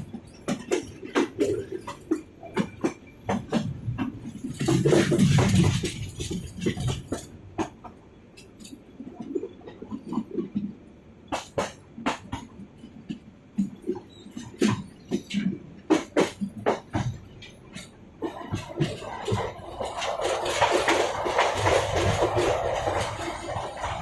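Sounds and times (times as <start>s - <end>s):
train carriage rattling: 0.0s - 24.0s.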